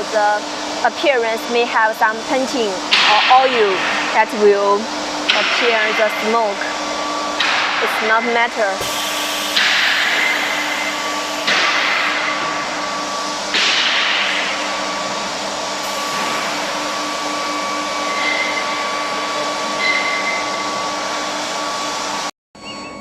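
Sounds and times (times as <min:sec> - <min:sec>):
induction furnace hiss and whine: 0:00.0 - 0:22.3.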